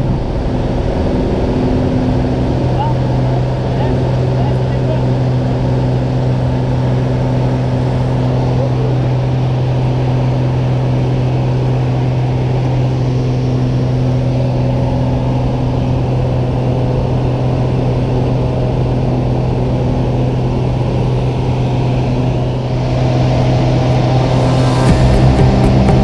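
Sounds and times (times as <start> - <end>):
light aircraft engine droning: 0.0 - 26.0.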